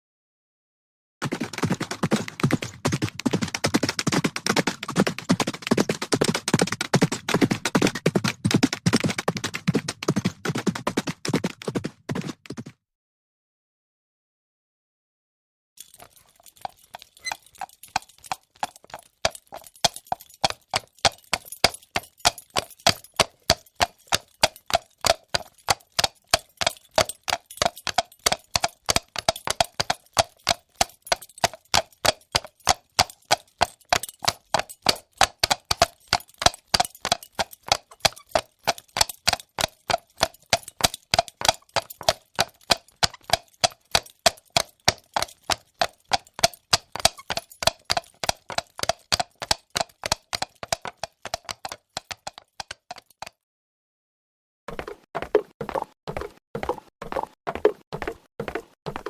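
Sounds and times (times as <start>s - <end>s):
horse hooves clip-clopping: 1.2s - 12.7s, 15.8s - 53.4s, 54.7s - 59.0s.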